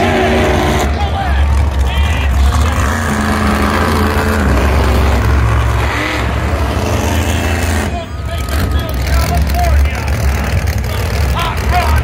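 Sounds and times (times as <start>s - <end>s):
truck engine deep rumble: 0.0s - 12.0s.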